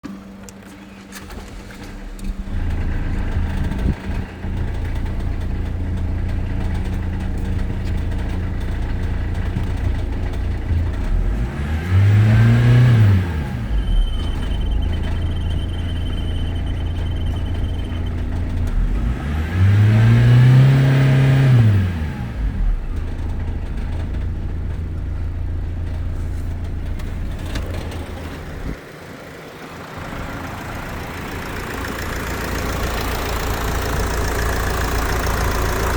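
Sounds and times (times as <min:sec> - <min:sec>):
diesel engine idling and revving: 0:00.0 - 0:35.9.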